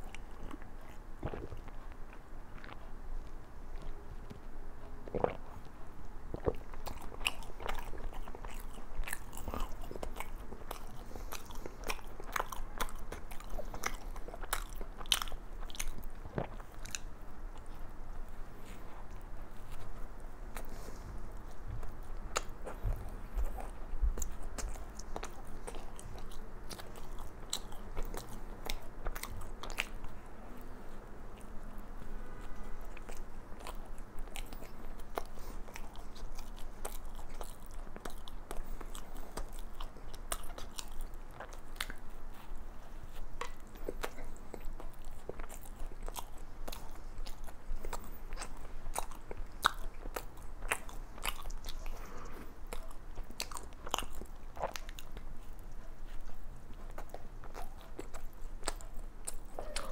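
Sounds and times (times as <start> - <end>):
chewing with crunches: 0.0 - 59.9.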